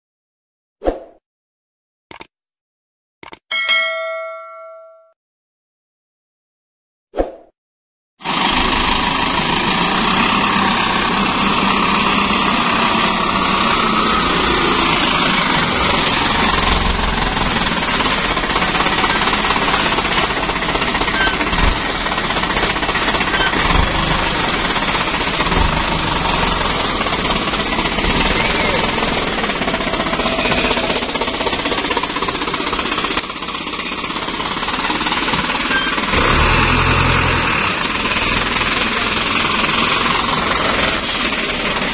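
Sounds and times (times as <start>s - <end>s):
diesel truck engine running: 8.2s - 41.9s.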